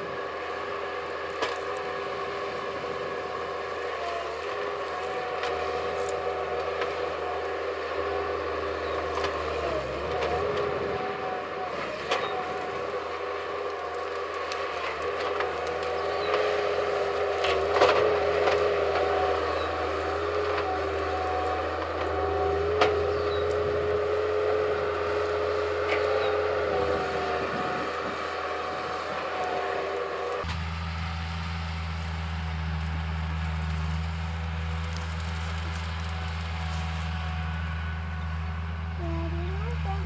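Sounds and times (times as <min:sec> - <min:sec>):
skid loader engine running: 0:00.0 - 0:40.0.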